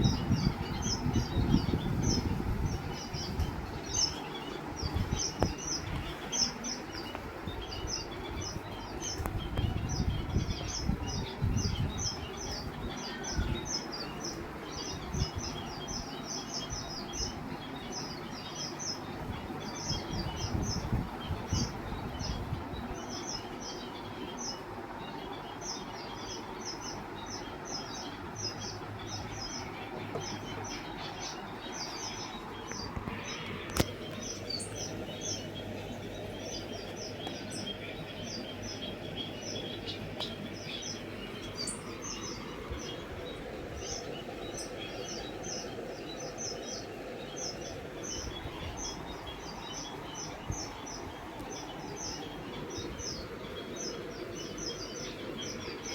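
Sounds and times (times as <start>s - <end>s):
caged birds chirping: 0.0s - 55.9s
steady background noise: 0.0s - 55.9s.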